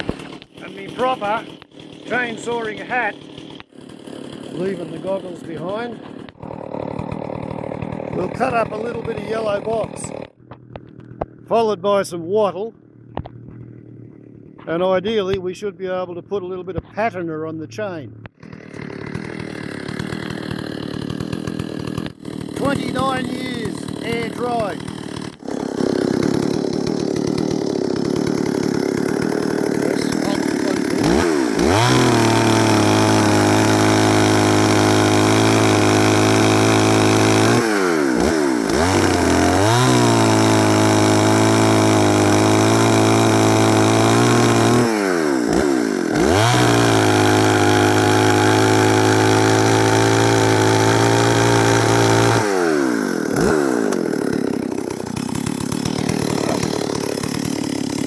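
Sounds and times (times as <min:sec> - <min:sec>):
chainsaw idling and revving: 0:00.0 - 0:15.4, 0:18.1 - 0:58.0.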